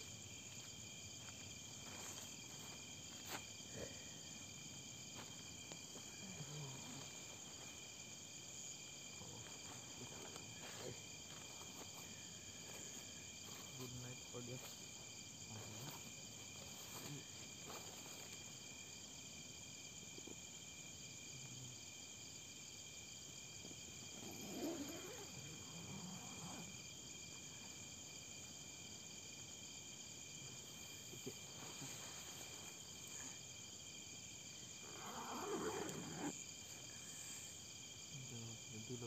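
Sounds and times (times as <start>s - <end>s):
crickets and insects trilling: 0.0s - 39.0s.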